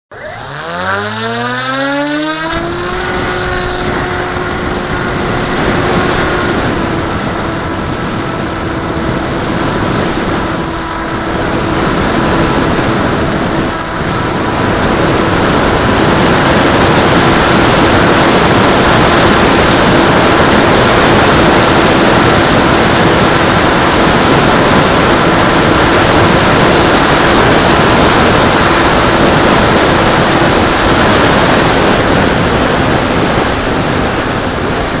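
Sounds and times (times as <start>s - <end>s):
electric motor and propeller whining: 0.1s - 35.0s
wind rush: 0.1s - 35.0s.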